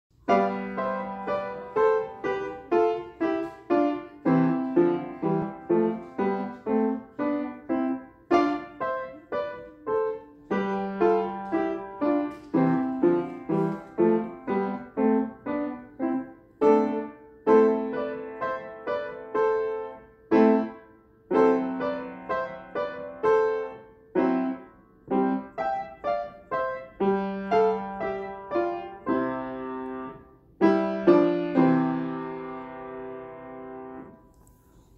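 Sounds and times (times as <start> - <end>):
person playing piano: 0.1 - 34.7.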